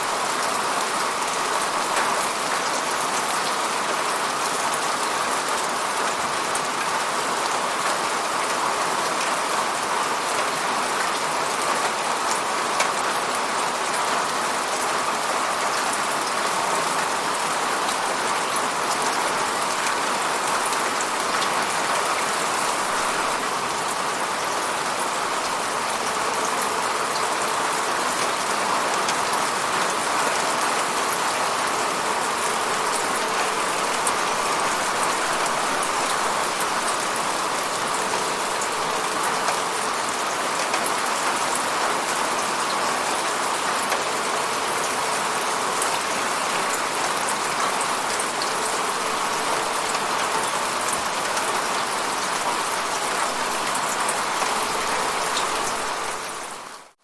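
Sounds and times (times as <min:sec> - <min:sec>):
steady falling rain: 0:00.0 - 0:57.0.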